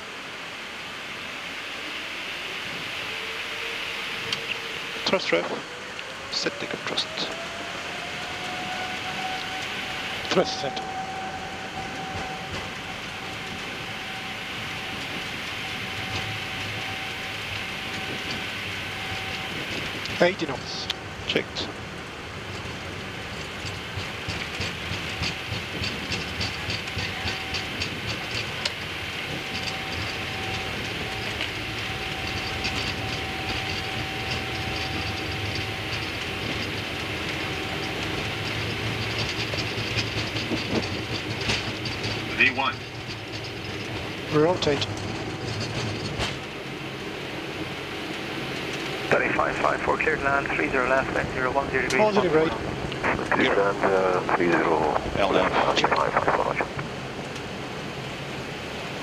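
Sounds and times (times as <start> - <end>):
jet engines and wheels rumbling: 0.0 - 59.0
constant hiss: 9.2 - 59.0.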